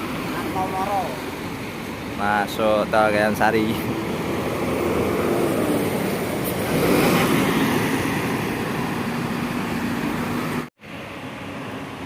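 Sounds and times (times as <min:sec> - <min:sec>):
bus engine and tyre noise: 0:00.0 - 0:12.0.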